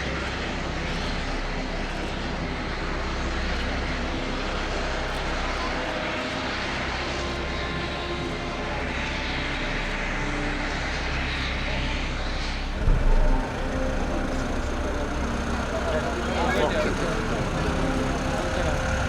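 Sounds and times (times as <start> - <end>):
helicopters flying overhead: 0.1 - 19.0.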